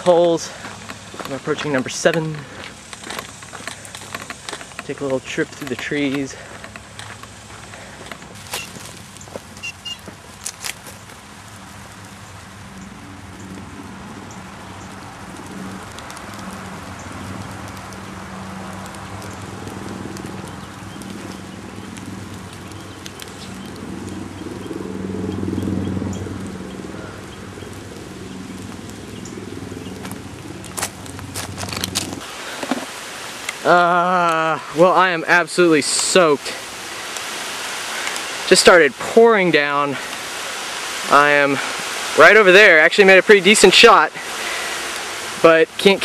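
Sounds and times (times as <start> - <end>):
heavy rain on leaves: 0.0 - 46.0.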